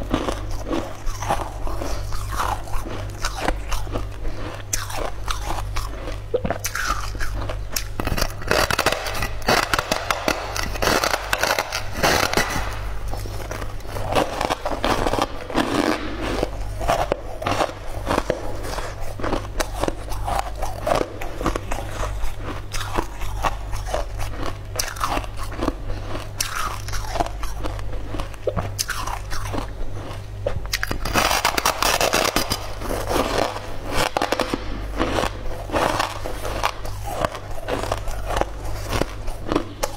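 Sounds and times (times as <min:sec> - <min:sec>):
crunchy food being chewed: 0:00.0 - 0:39.9
steady low hum: 0:00.0 - 0:39.9.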